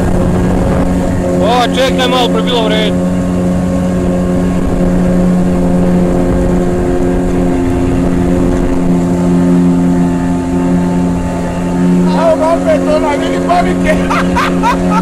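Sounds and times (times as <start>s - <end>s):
small boat motor humming: 0.0s - 15.0s.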